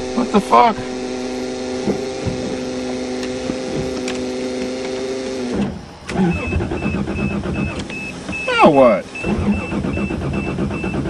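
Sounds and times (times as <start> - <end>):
steady electric whine: 0.0 - 11.0.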